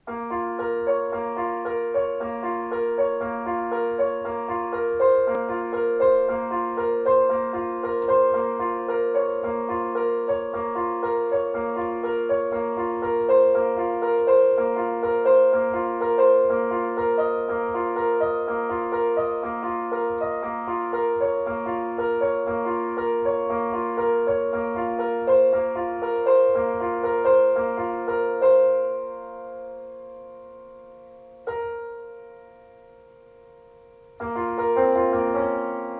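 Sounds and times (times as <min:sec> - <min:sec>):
slow solo piano music: 0:00.0 - 0:35.9.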